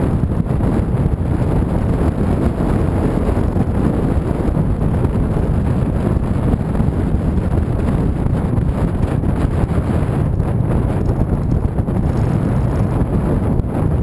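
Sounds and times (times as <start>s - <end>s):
motorcycle and road rumble: 0.0s - 14.0s
wind buffeting microphone: 0.0s - 14.0s.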